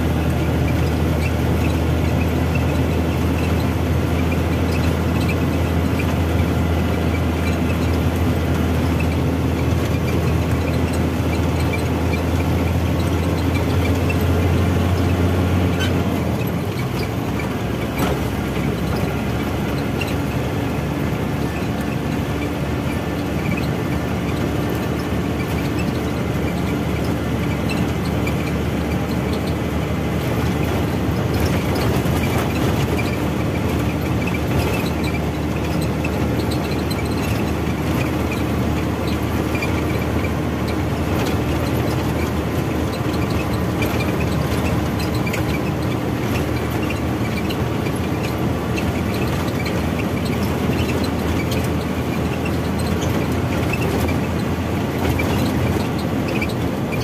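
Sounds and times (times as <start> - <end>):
road noise: 0.0 - 57.0
truck engine drone: 0.0 - 57.0.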